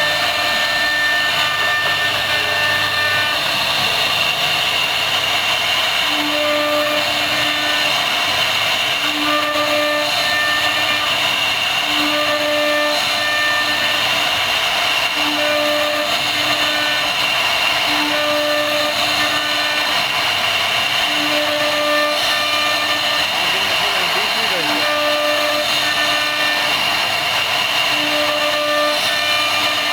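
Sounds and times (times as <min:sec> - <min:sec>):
router spindle high whine: 0:00.0 - 0:29.9.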